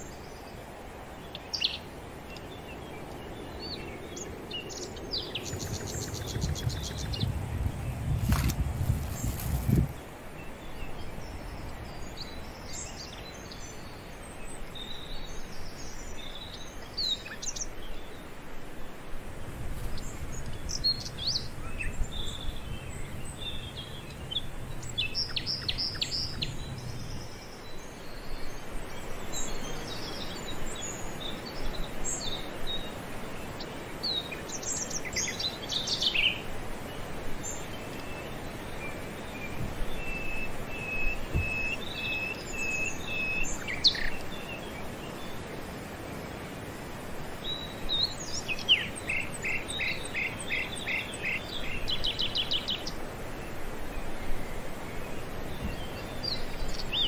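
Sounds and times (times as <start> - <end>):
birds chirping: 0.0 - 19.0, 19.8 - 57.0
steady outdoor hiss: 0.0 - 57.0.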